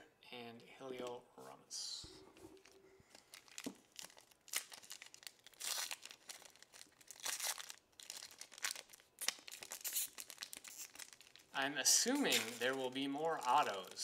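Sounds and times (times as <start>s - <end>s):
foil wrapper crinkling and tearing: 2.6s - 14.0s.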